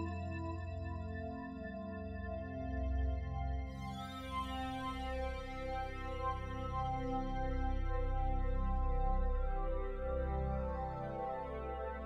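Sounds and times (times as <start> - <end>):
soft ambient music: 0.0 - 12.0.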